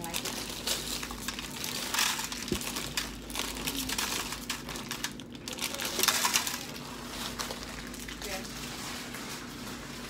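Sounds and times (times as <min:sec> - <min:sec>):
chip bag crinkling: 0:00.0 - 0:10.0.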